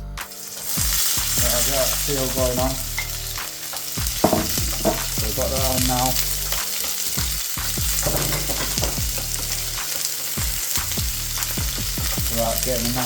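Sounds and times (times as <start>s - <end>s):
vegetables sizzling in a frying pan: 0.3s - 13.0s.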